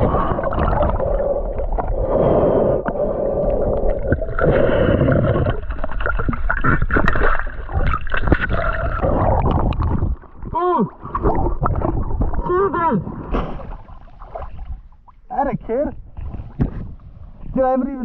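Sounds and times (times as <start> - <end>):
muffled water gurgling and sloshing: 0.0 - 18.0.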